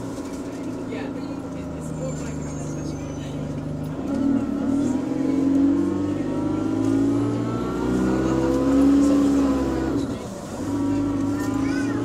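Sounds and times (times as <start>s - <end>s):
bus engine moaning: 0.0s - 12.0s.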